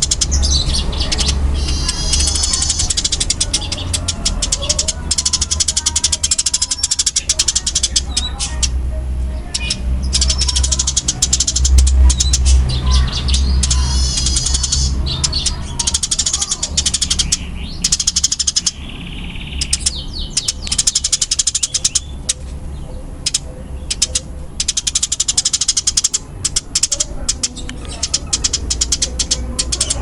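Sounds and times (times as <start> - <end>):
sparrows chattering: 0.0 - 30.0.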